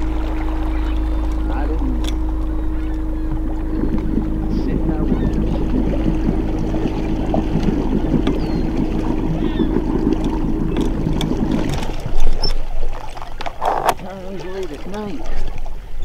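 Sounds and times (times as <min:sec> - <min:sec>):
boat motor running: 0:00.0 - 0:16.0
water noise: 0:00.0 - 0:16.0.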